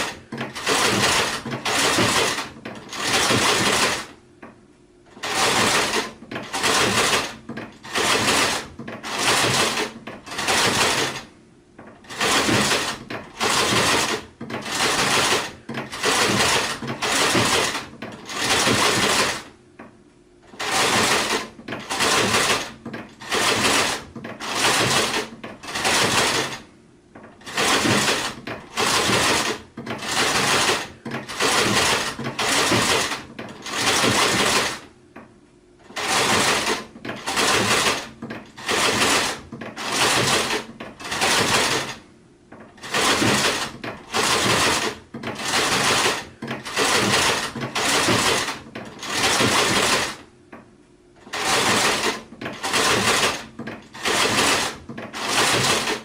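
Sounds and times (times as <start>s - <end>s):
sewing machine stitching: 0.0s - 4.2s, 5.1s - 19.6s, 20.4s - 34.9s, 35.8s - 50.3s, 51.2s - 56.0s.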